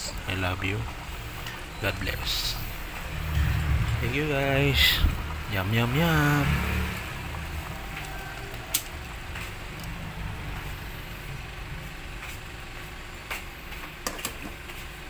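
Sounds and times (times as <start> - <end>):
gas stove burner rumbling: 0.0 - 15.0.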